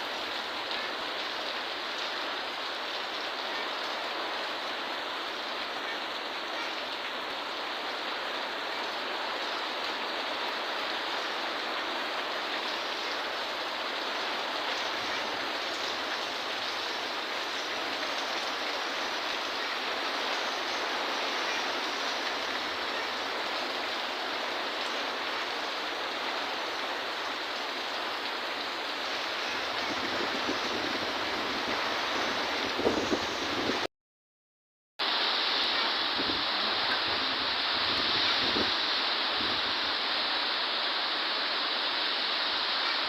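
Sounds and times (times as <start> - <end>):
heavy rain pouring: 0.0 - 33.9, 35.0 - 43.0.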